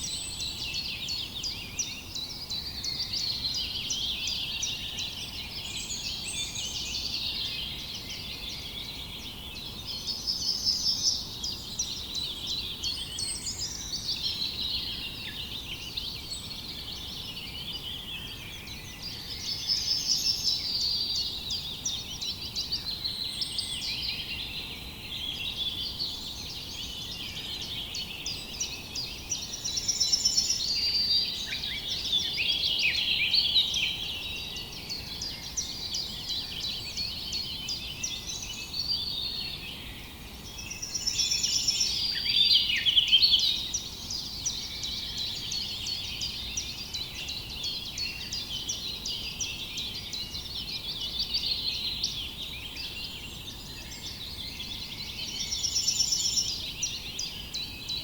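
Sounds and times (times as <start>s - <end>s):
faint background hiss: 0.0s - 58.0s
small birds chirping: 0.0s - 58.0s.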